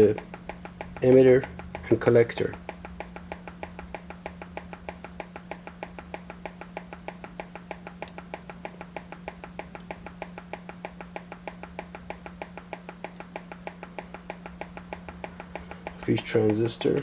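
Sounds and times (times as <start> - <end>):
low electrical hum: 0.0 - 17.0
rapid electronic ticking pulse: 0.0 - 17.0.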